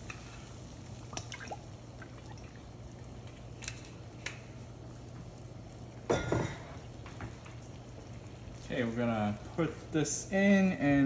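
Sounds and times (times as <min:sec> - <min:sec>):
water boiling and bubbling: 0:00.0 - 0:11.0.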